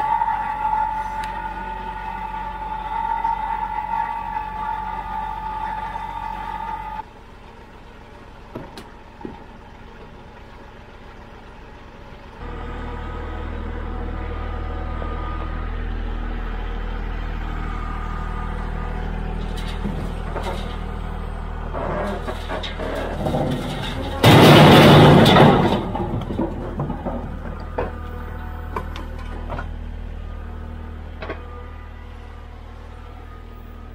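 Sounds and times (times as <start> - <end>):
hydraulic whine: 0.0 - 7.2, 12.4 - 33.9
diesel tractor engine running: 0.0 - 33.9.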